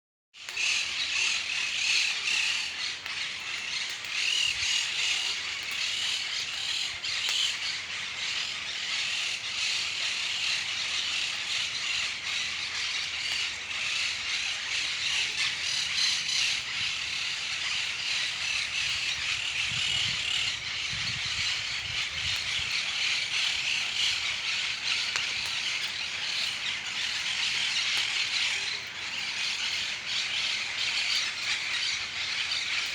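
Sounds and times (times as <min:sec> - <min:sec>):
birds chorus of squawks and chirps: 0:00.4 - 0:32.9.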